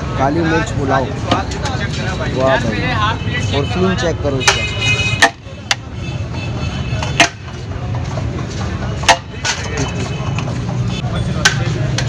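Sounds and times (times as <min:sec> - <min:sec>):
busy street noise: 0:00.0 - 0:12.0.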